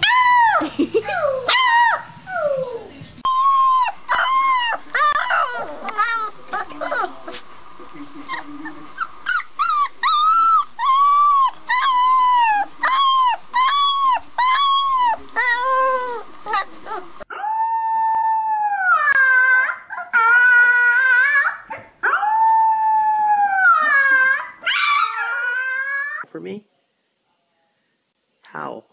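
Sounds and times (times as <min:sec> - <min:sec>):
puppy whining howls: 0:00.0 - 0:06.3, 0:09.3 - 0:26.2.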